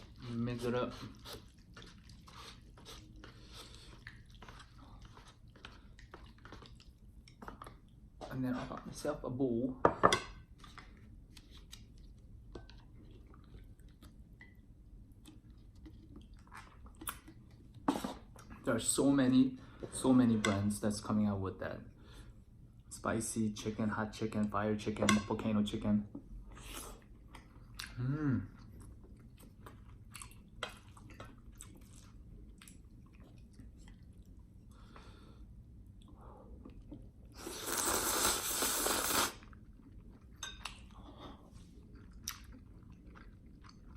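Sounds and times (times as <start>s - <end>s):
soft wet food sounds: 0.0s - 9.6s, 10.3s - 43.9s.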